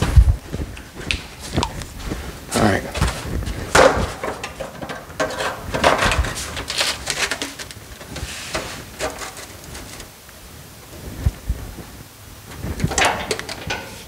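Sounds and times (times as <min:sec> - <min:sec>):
metal sheet rustling and scraping: 0:00.0 - 0:14.0.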